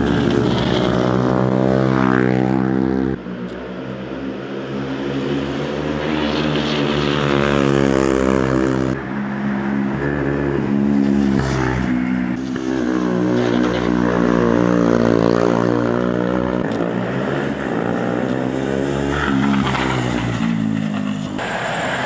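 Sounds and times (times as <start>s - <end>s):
car passing: 0.0s - 22.0s
motorcycle engines revving: 0.0s - 22.0s.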